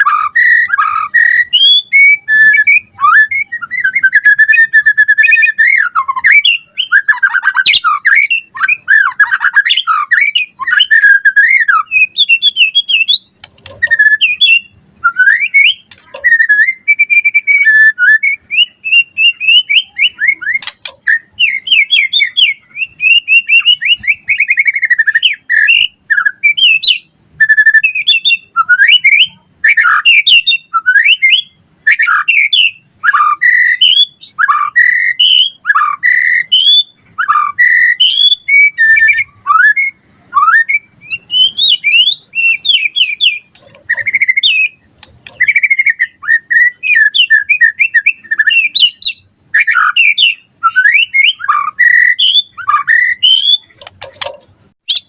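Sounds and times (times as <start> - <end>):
bird singing whistled song: 0.0 - 54.0.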